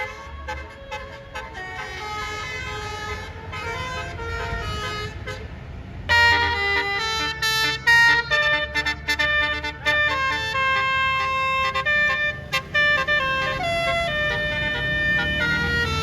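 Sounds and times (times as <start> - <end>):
bus horns playing a tune: 0.0 - 16.0
low engine rumble: 0.0 - 16.0.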